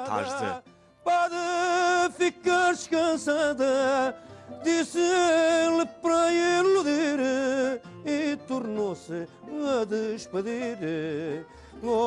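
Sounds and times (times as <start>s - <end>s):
guitars playing: 0.0s - 12.0s
man singing with vibrato: 0.0s - 12.0s.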